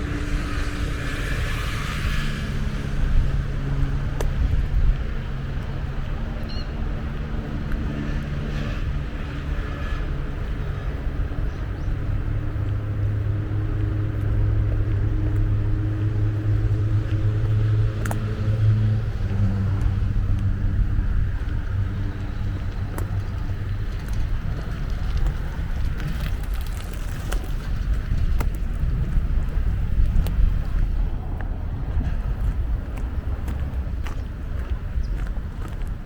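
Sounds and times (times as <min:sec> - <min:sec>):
outdoor background noise: 0:00.0 - 0:36.0
vehicle engine humming: 0:00.0 - 0:36.0.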